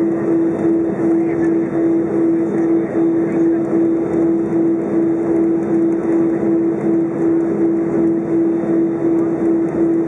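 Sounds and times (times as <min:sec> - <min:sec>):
aircraft cabin hum: 0:00.1 - 0:09.8.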